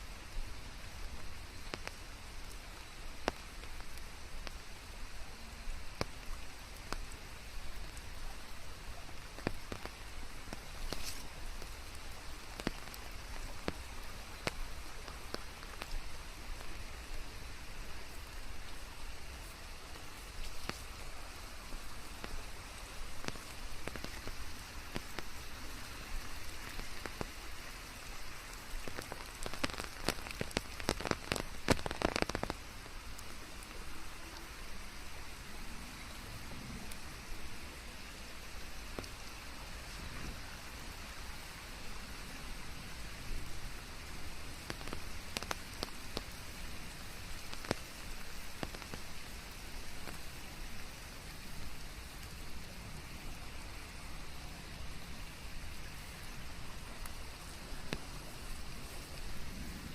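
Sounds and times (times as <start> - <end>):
raindrops hitting: 0.0 - 59.9
steady rain: 0.0 - 59.9.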